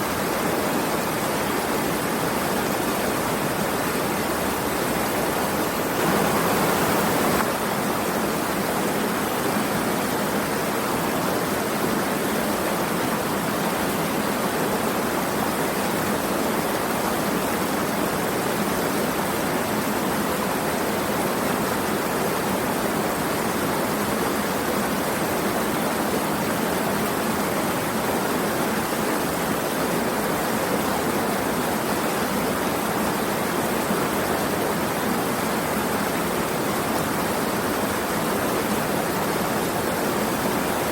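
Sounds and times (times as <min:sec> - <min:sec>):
rush of flowing water: 0:00.0 - 0:40.9.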